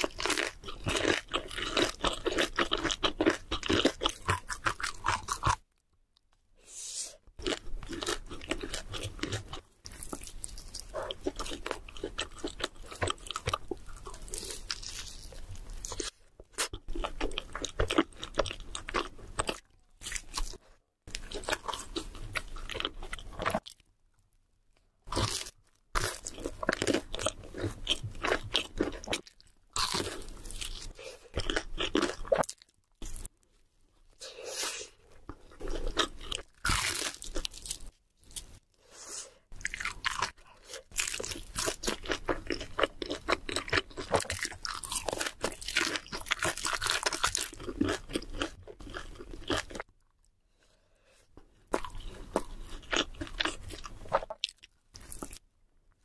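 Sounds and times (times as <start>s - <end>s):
crunching and chewing fried food: 0.0s - 6.4s, 7.3s - 34.2s, 34.8s - 56.0s.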